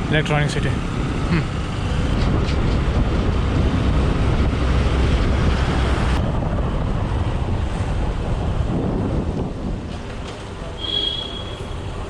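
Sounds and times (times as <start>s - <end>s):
wind rushing over microphone: 0.0s - 10.8s
motorcycle and road rumble: 0.0s - 12.0s.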